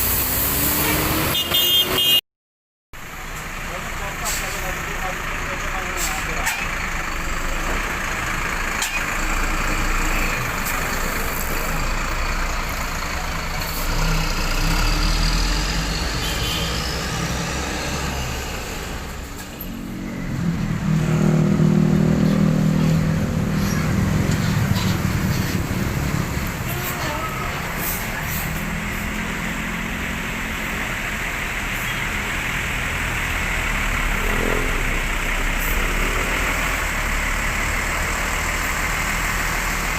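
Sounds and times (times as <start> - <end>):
street traffic: 0.0 - 2.2, 3.0 - 39.9
bus engines running: 3.0 - 39.9.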